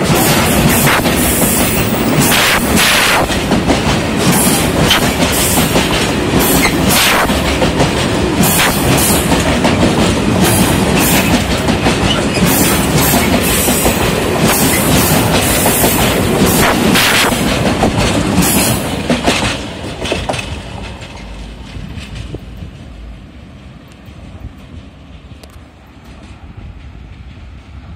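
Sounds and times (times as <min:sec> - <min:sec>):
freight train wheels clicking: 0:00.0 - 0:27.9.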